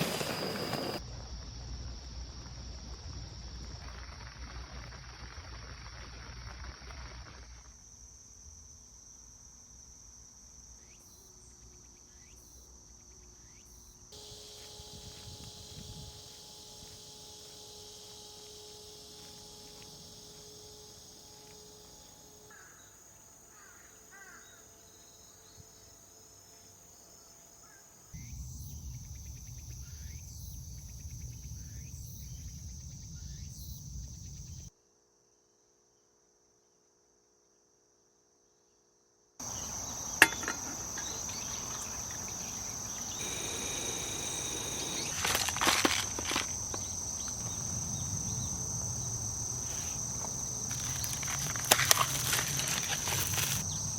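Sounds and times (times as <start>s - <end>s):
crickets chirping: 0.0s - 35.7s, 39.4s - 53.9s.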